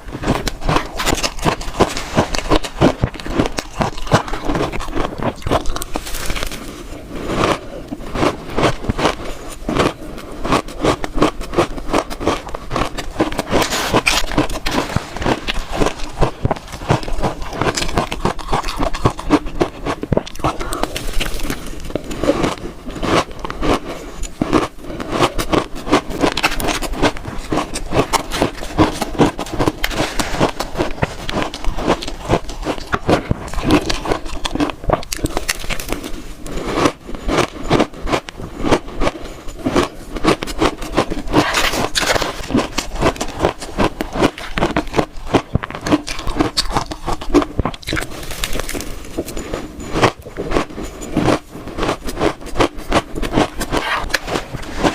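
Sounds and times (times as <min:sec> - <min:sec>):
chewing crunchy shaved ice: 0:00.0 - 0:54.9.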